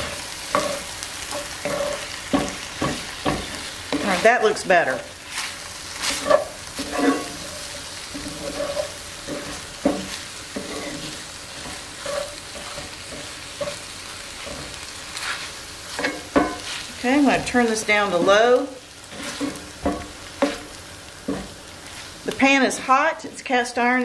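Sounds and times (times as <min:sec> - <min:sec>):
spatula scraping a pan: 0:00.0 - 0:22.9
food sizzling in a skillet: 0:00.0 - 0:24.0.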